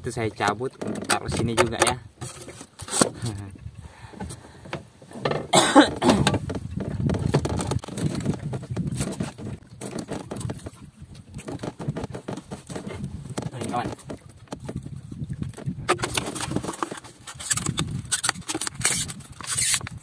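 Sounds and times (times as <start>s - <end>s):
rough uneven rumble: 0.0s - 20.0s
lamps rustling and knocking: 0.7s - 3.2s, 4.2s - 10.8s, 11.4s - 14.9s, 15.5s - 19.9s.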